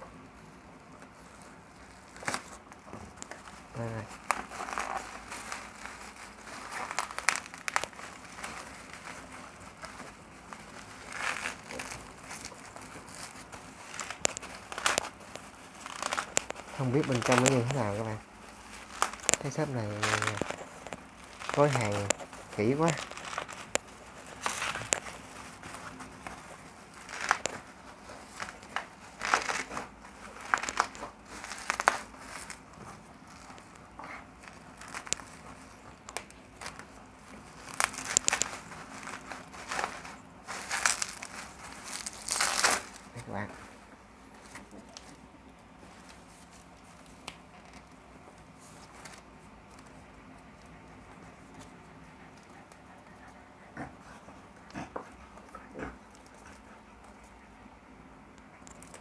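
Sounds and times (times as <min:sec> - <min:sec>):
bubble wrap crinkling: 0:00.7 - 0:53.2, 0:58.6 - 0:59.0.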